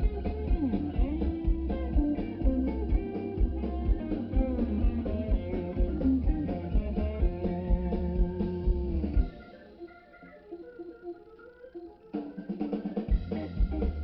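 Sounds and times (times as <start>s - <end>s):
blues band playing live: 0.0s - 14.0s
lead guitar: 0.0s - 14.0s.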